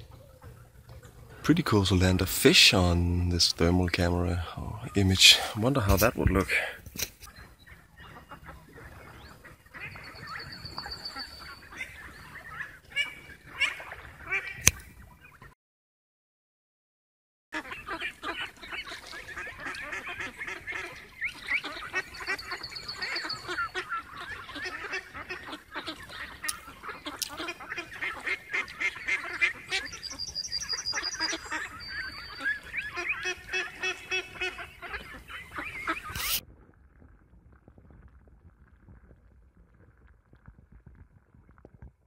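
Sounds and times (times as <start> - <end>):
ducks quacking: 0.0 - 15.5, 17.6 - 36.4.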